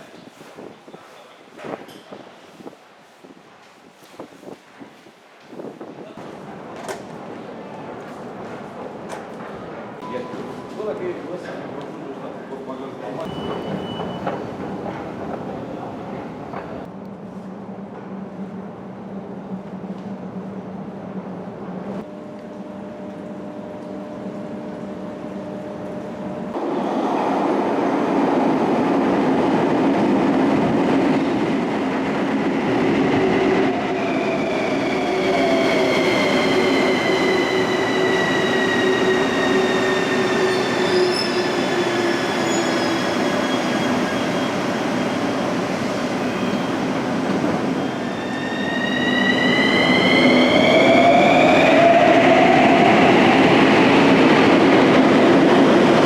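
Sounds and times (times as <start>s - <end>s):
metro train rumble: 0.0s - 56.0s.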